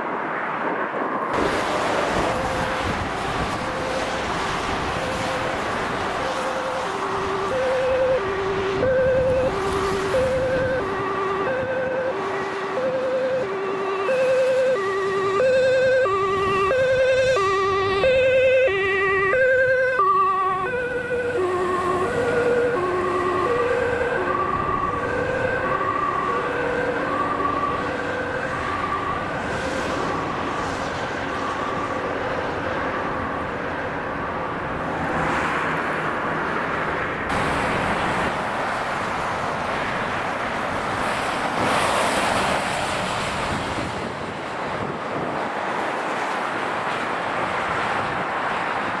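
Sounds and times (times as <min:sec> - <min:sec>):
motorway traffic rushing: 0:00.0 - 0:49.0
vehicle passing: 0:00.1 - 0:49.0
two-tone siren: 0:01.1 - 0:35.6, 0:37.3 - 0:45.3.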